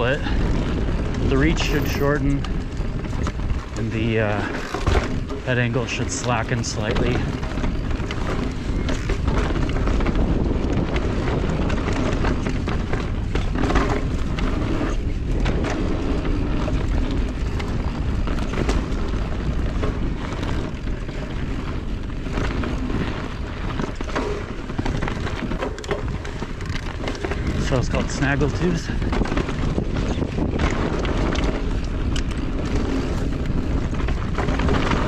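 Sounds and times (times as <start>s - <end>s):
bike knocking and rattling: 0.0s - 35.0s
bike tyres rolling over dirt: 0.0s - 35.0s
wind buffeting microphone: 0.0s - 35.0s.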